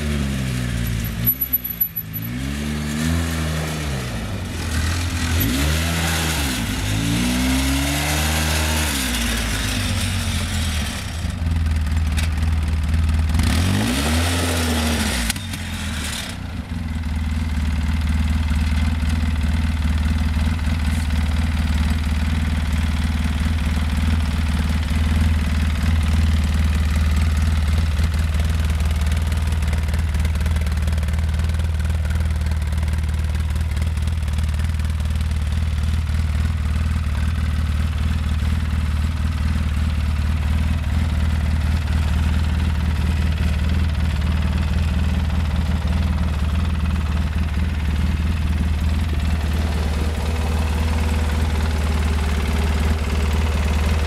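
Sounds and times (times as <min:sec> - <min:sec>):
atv engine revving and idling: 0:00.0 - 0:54.0.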